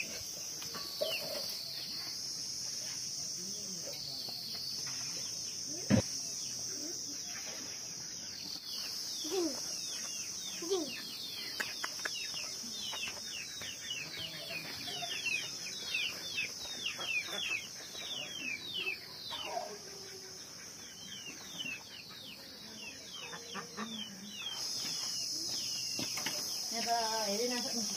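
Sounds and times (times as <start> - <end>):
birds chirping: 0.0 - 2.7, 3.3 - 27.9
insects buzzing: 0.0 - 27.9.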